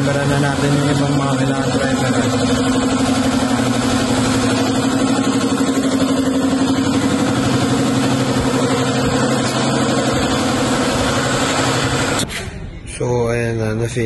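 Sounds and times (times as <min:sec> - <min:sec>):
machine humming with hiss: 0:00.0 - 0:12.4.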